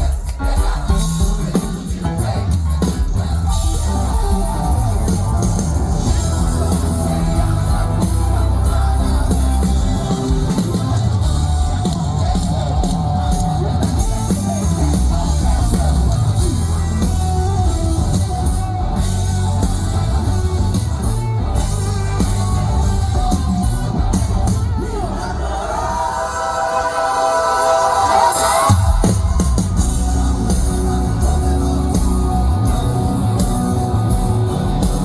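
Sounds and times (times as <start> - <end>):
pop-rock band music: 0.0 - 35.0.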